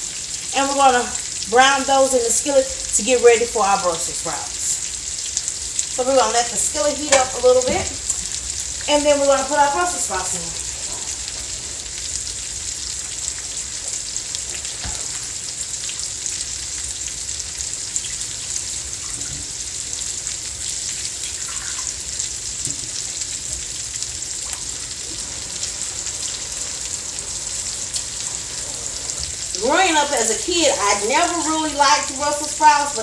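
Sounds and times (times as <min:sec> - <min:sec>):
meat sizzling in a pan: 0:00.0 - 0:33.0.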